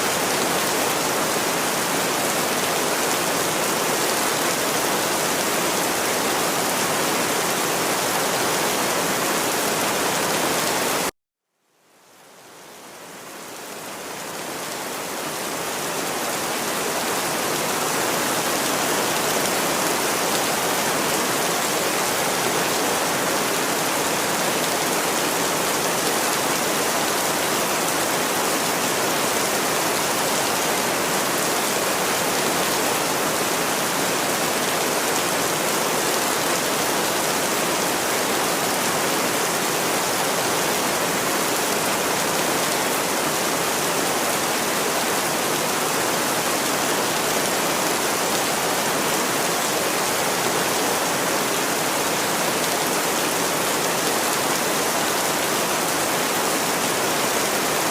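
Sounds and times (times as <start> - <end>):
heavy rain: 0.0 - 11.1, 12.0 - 57.9.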